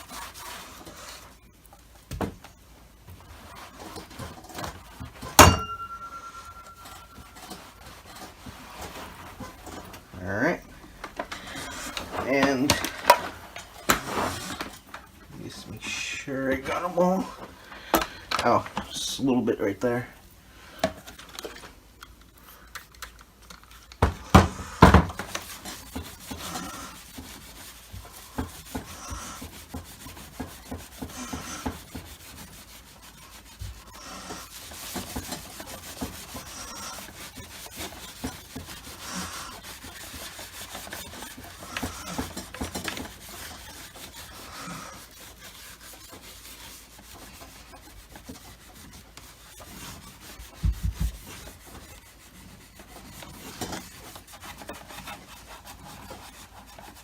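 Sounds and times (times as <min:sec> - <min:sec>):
scrubbing on plastic: 0:00.0 - 0:20.2, 0:20.8 - 0:57.0.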